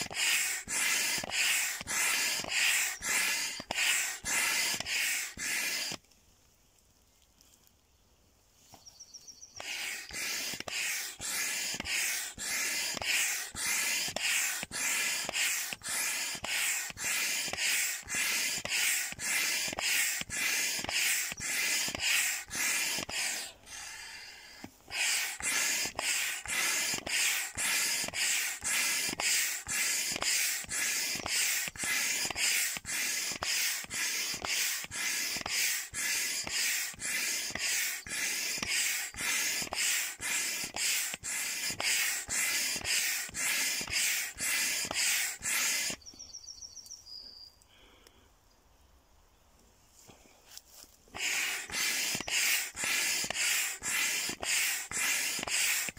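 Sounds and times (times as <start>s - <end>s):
hand pump hissing strokes: 0.0s - 6.0s, 9.6s - 46.0s, 51.1s - 55.9s.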